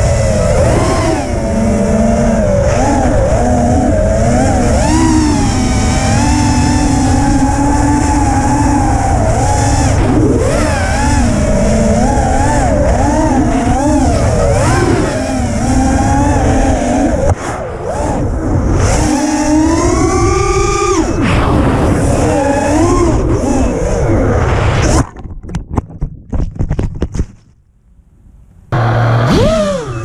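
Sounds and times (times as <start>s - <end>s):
quadcopter motors whining: 0.0s - 24.2s, 28.8s - 30.0s.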